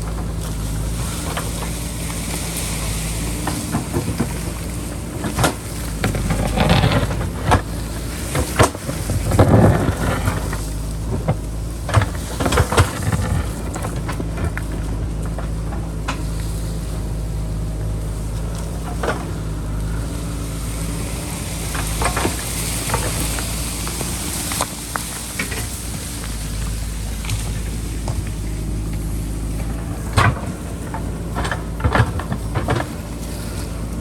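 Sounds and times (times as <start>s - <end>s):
backhoe diesel engine running: 0.0s - 34.0s
bucket scraping soil and rock: 0.0s - 34.0s.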